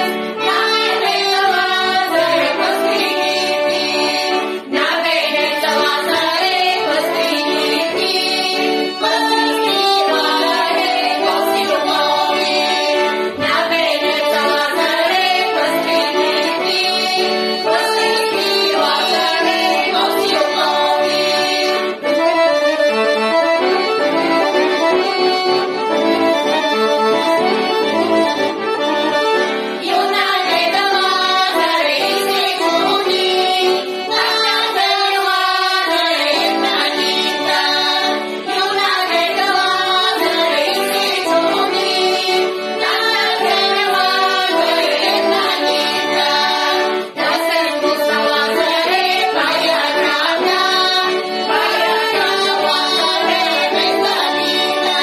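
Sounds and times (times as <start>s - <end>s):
women singing folk song together: 0.0s - 22.3s, 29.7s - 55.0s.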